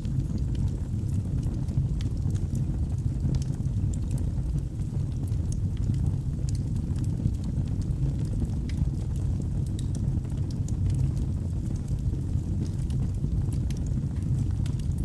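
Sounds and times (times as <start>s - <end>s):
fire rumbling: 0.0s - 15.0s
wood fire crackling and popping: 0.0s - 15.0s.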